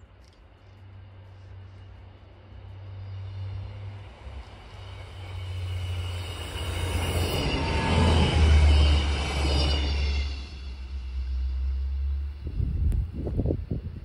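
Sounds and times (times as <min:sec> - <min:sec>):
diesel train passing at speed: 0:00.0 - 0:14.0.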